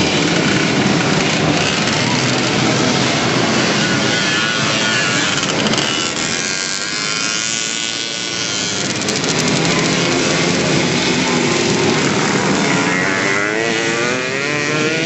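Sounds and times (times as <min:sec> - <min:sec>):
moped engines buzzing past: 0:00.0 - 0:15.0.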